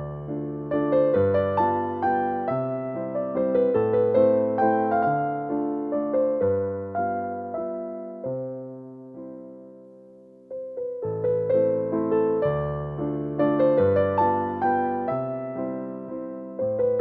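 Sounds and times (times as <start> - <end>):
slow piano chords and melody: 0.0 - 17.0.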